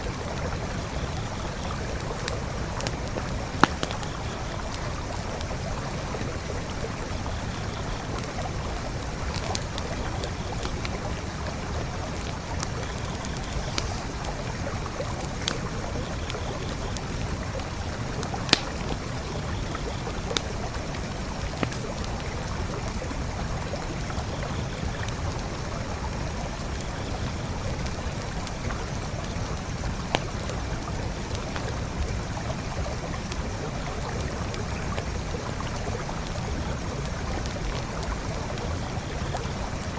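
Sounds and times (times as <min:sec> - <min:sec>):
campfire crackling and popping: 0:00.0 - 0:39.9
creek flowing: 0:00.0 - 0:39.9.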